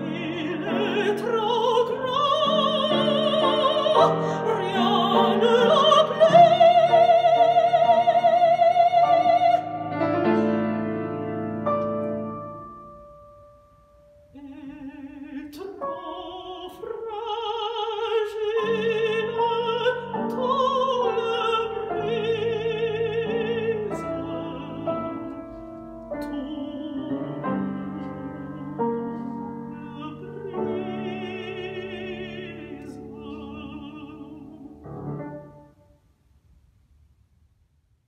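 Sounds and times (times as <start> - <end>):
woman singing opera: 0.0 - 10.0, 14.3 - 35.2
grand piano: 0.0 - 37.4.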